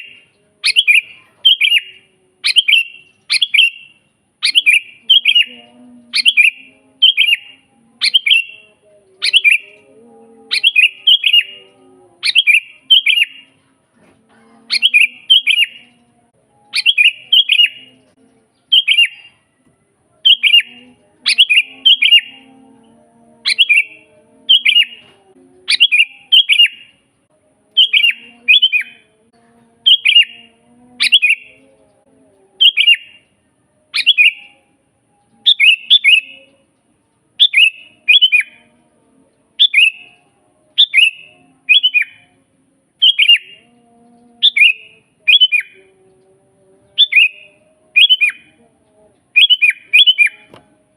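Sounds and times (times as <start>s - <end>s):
bulbul singing: 0.0s - 50.9s.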